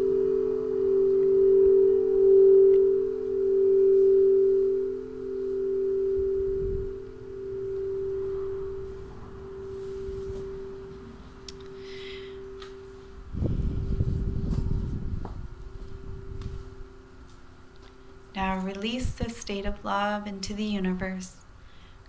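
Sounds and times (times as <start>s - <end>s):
singing bowls ringing: 0.0s - 20.8s
low tone: 0.0s - 21.5s.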